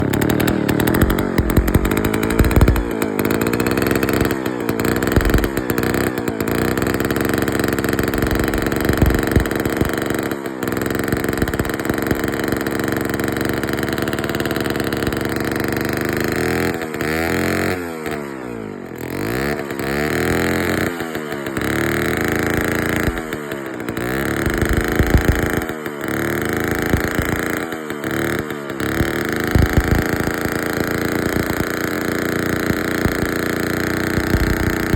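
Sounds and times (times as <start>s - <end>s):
chainsaw engine revving: 0.0s - 34.9s.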